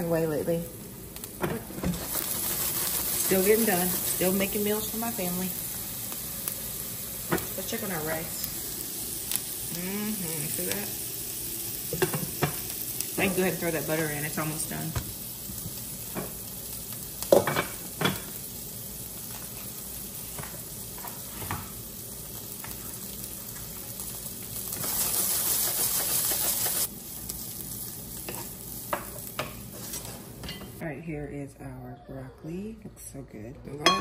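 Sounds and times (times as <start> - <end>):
vegetables sizzling in a frying pan: 0.0 - 30.8.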